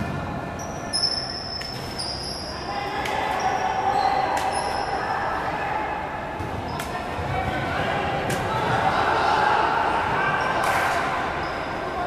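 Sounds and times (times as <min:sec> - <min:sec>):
players' voices: 0:00.0 - 0:12.0.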